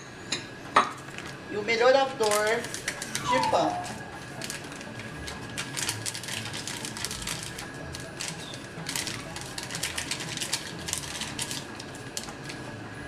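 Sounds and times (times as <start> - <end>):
plastic sachet crinkling: 1.0 - 1.4, 2.1 - 12.6.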